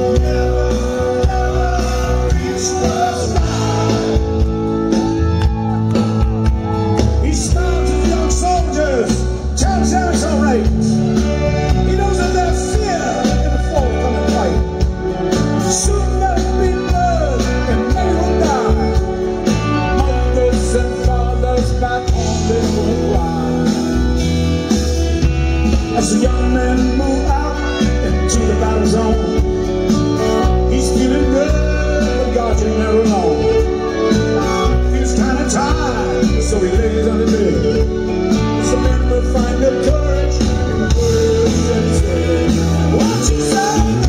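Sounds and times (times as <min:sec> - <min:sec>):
rock band playing: 0:00.0 - 0:44.0.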